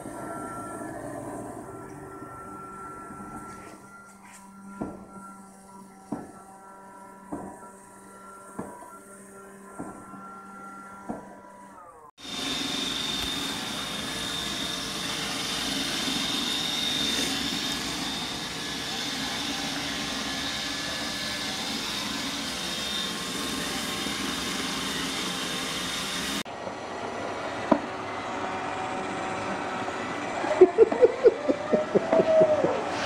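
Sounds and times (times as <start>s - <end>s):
robot vacuum running: 0.0s - 33.0s.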